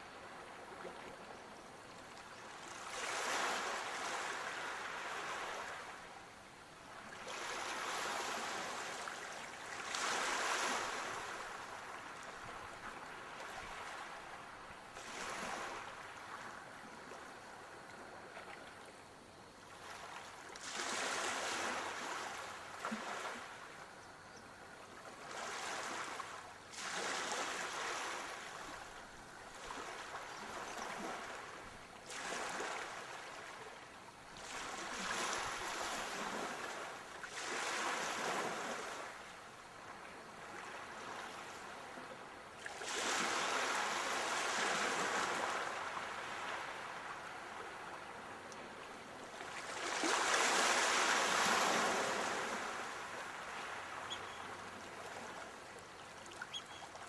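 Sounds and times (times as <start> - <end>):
sea waves breaking on shore: 0.0 - 18.9, 19.6 - 24.0, 24.6 - 57.0.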